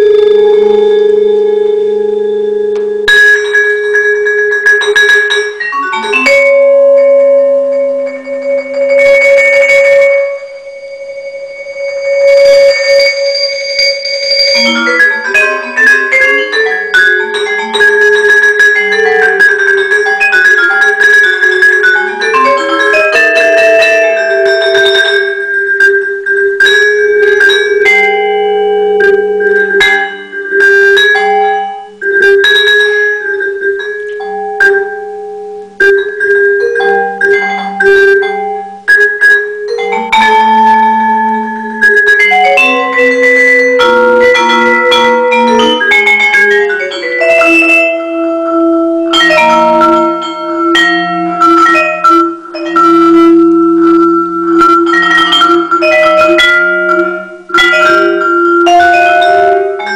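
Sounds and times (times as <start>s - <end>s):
vibraphone played with mallets: 0.0s - 59.9s.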